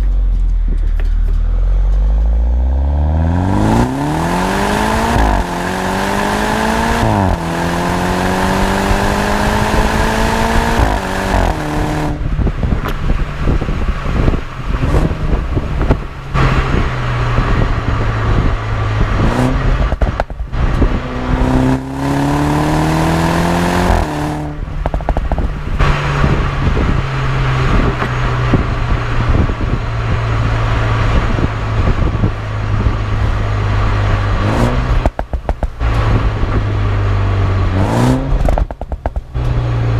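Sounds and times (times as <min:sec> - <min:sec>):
exhaust crackling and popping: 0:00.0 - 0:39.9
car engine revving hard: 0:01.6 - 0:39.9.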